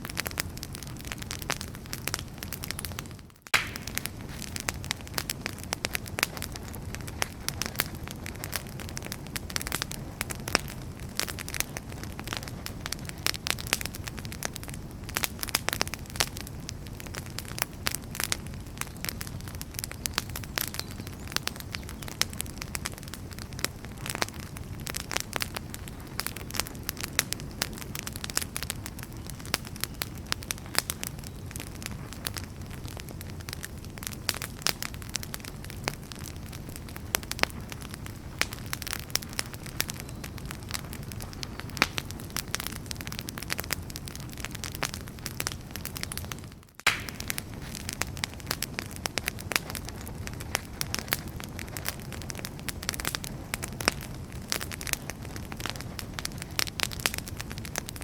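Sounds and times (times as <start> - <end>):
firewood crackling and popping: 0.0 - 58.0
low rumble of flames: 0.0 - 58.0.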